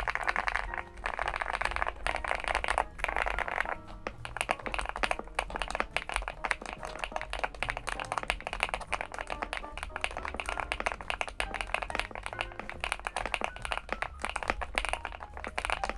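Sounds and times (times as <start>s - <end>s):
background music: 0.0s - 15.9s.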